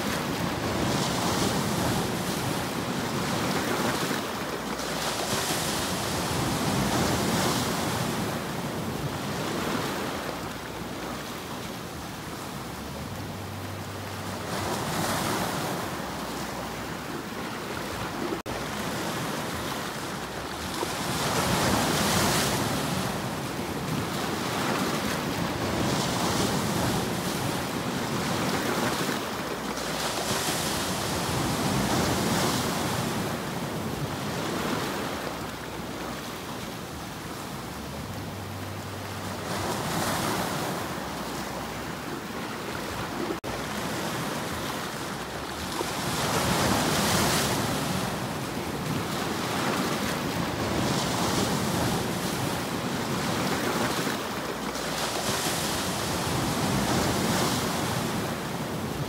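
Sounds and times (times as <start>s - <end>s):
sea surf breaking over rocks: 0.0s - 59.0s.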